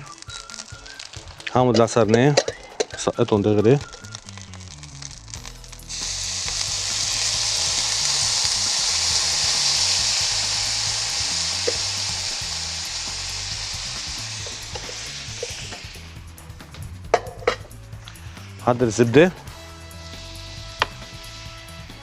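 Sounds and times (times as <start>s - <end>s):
juice sizzling in hot pan: 0.0s - 22.0s.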